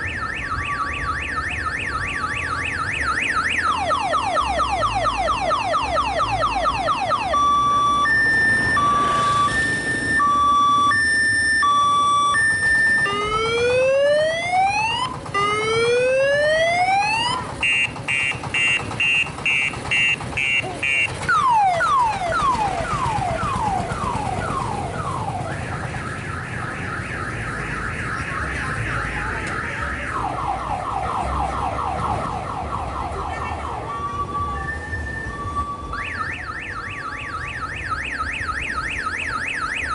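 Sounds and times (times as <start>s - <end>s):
electronic multi-tone horn siren: 0.0s - 39.9s.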